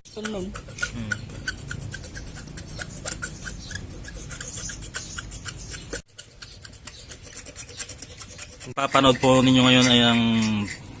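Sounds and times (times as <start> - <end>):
gritty valve lapping rubbing: 0.2 - 11.0.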